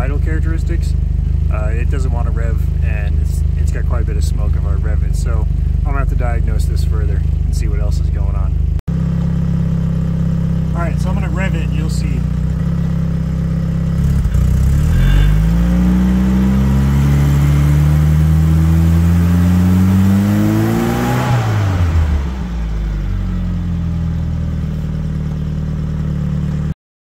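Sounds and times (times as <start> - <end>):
car engine revving: 0.0 - 26.7.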